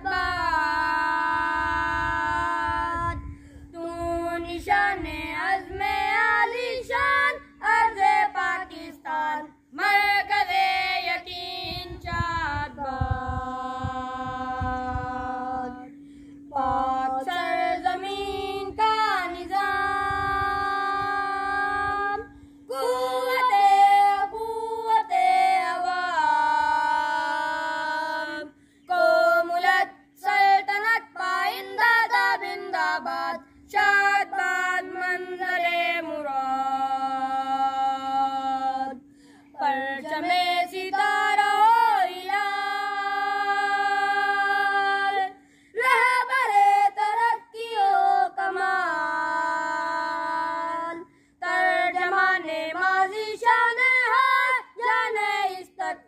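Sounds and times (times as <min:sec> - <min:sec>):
low hum: 0:00.0 - 0:56.0
young voices singing: 0:00.0 - 0:56.0.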